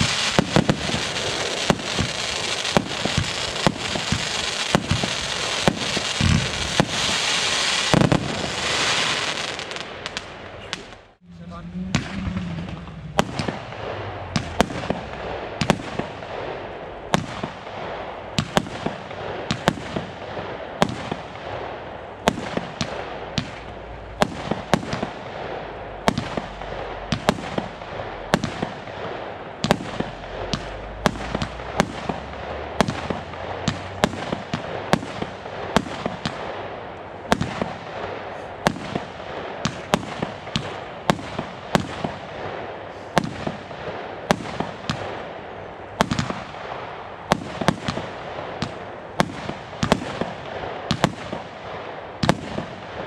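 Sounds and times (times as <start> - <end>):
firework hiss and crackle: 0.0 - 45.4
firework bangs: 0.0 - 53.0.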